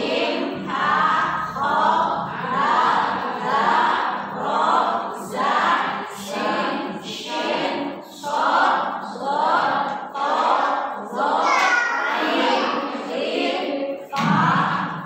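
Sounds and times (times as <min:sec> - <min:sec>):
women chanting in unison: 0:00.0 - 0:15.0.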